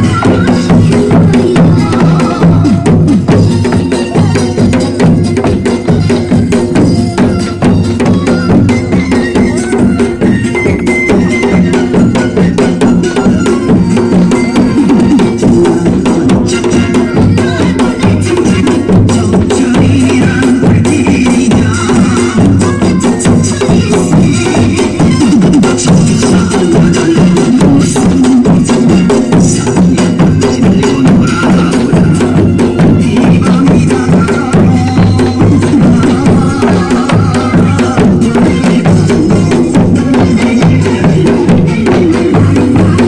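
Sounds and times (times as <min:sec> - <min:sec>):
folk dance music: 0:00.0 - 0:43.0
hand drums beaten: 0:00.0 - 0:43.0.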